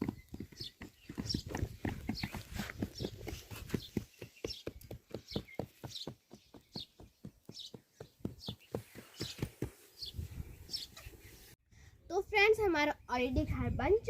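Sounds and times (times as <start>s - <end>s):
bird chirping: 0.0s - 11.6s.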